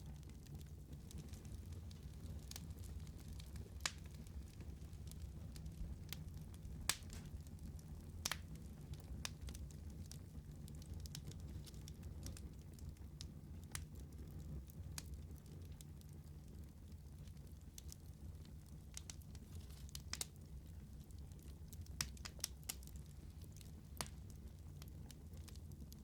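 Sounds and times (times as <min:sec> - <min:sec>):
fire crackles and pops: 0:00.0 - 0:26.0
wood fire rumble: 0:00.0 - 0:26.0.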